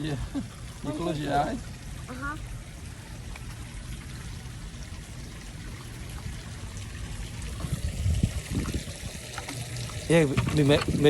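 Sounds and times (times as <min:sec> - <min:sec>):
water trickling and pouring: 0:00.0 - 0:11.0.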